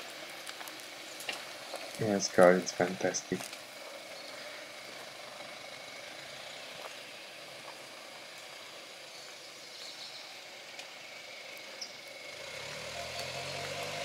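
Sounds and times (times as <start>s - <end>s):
low engine hum: 0.0s - 14.0s
steady outdoor hiss: 0.0s - 14.0s.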